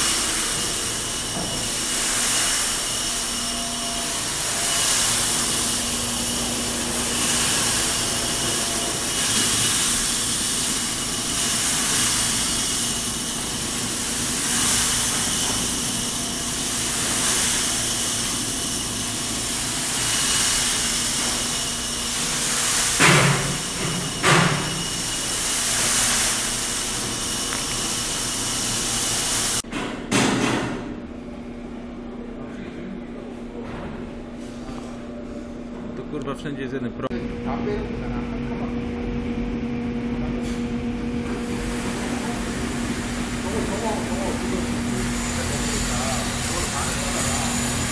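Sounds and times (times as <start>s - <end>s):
coffee roaster fans rushing: 0.0s - 47.9s.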